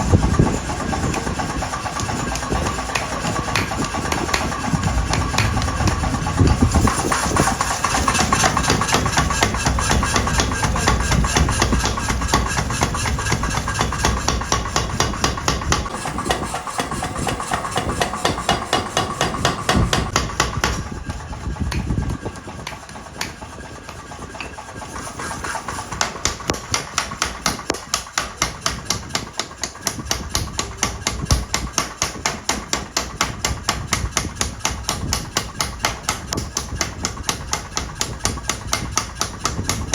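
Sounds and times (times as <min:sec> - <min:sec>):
steady machine hum: 0:00.0 - 0:39.9
hammer blows on steel: 0:00.4 - 0:39.9.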